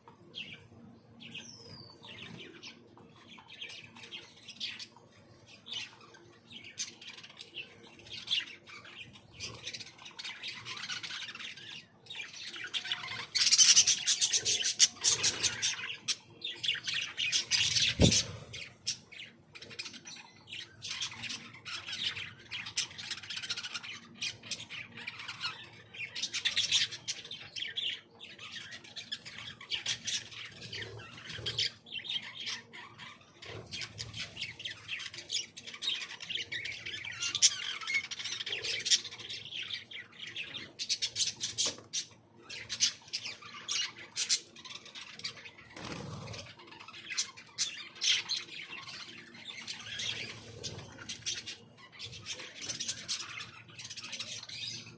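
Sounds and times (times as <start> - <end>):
small birds squawking and chattering: 0.0 - 54.9.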